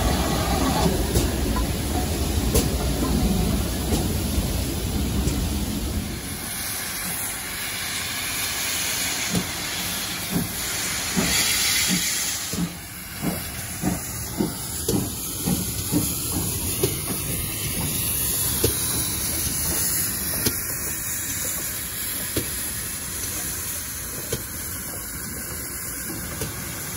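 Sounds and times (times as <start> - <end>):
hissing steam: 0.0 - 26.9
steam locomotive exhaust beats: 0.0 - 26.9
train coaches rumbling: 0.0 - 26.9.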